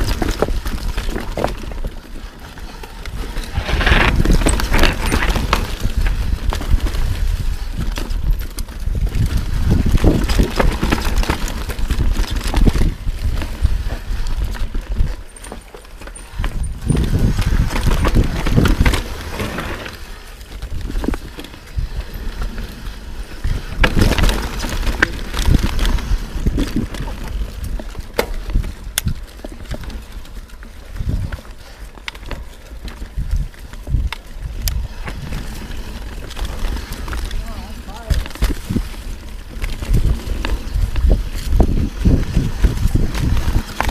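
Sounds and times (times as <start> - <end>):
bike rattling over rocks: 0.0 - 43.9
wind and tyres on dirt: 0.0 - 43.9.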